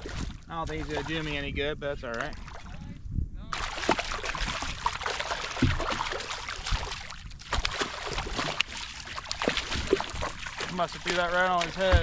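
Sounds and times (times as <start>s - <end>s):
water splashing against hull: 0.0s - 2.9s, 3.5s - 12.0s.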